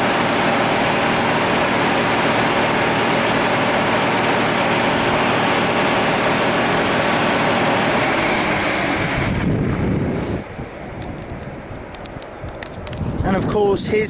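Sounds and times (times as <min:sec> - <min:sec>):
train engine drone: 0:00.0 - 0:13.2
loud rush of train noise: 0:00.0 - 0:14.0.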